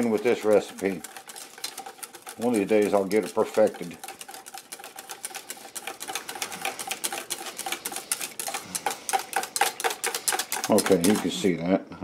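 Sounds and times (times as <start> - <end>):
wire whisk clicking in metal bowl: 0.0 - 11.5.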